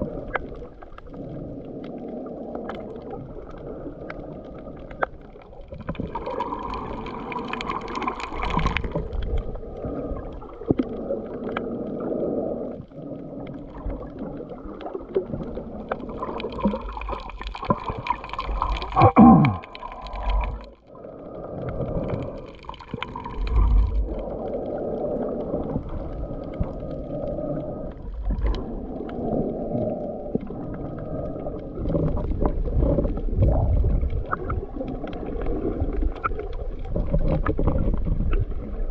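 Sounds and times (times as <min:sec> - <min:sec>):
underwater rushing and gurgling: 0:00.0 - 0:38.9.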